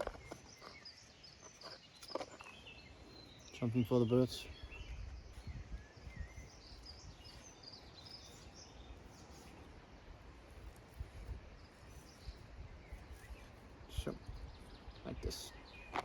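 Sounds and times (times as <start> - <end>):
faint songbird chirps: 0.0 - 16.0.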